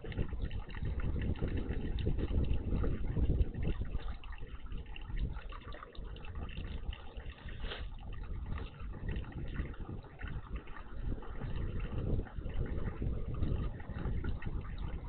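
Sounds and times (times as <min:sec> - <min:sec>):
low steady rumble: 0:00.0 - 0:15.0
water splashing in bird bath: 0:00.0 - 0:15.0.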